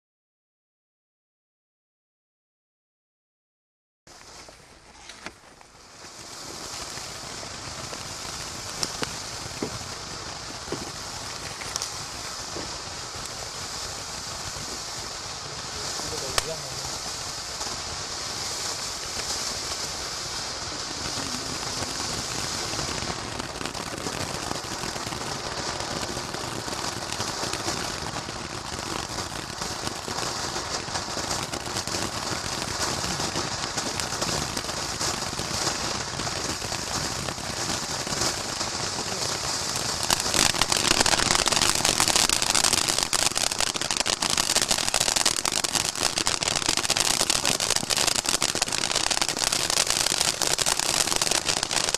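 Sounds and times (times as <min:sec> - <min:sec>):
firework fountain hissing: 0:04.1 - 0:51.9
dense fast crackling: 0:05.0 - 0:51.9.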